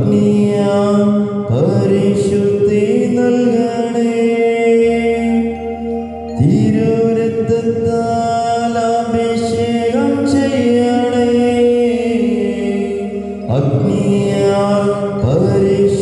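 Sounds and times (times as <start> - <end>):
slow chant-like music: 0.0 - 16.0.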